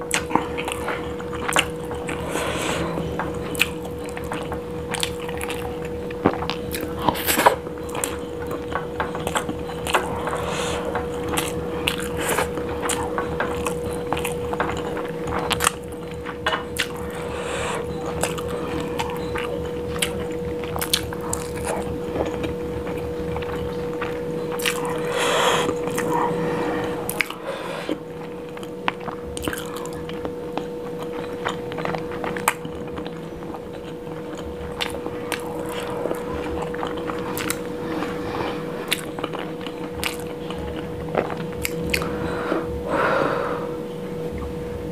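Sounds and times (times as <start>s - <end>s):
close chewing with mouth clicks: 0.0s - 42.3s.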